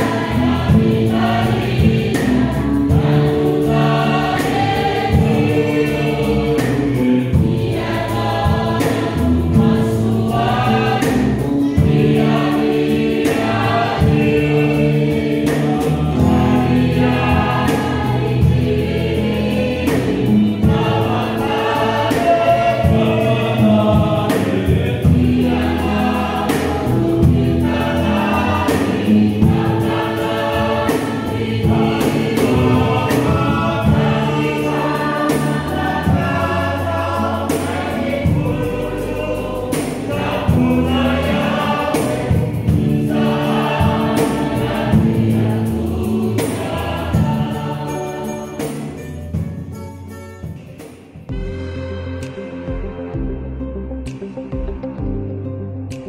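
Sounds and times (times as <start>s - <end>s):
choir singing gospel: 0.0s - 53.4s.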